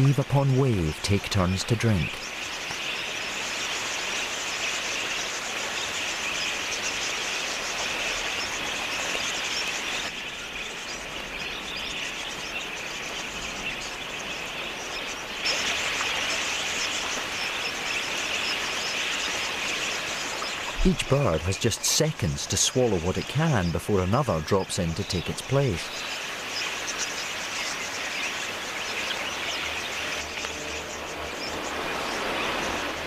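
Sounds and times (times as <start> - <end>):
flock of budgerigars chirping: 0.0 - 33.0.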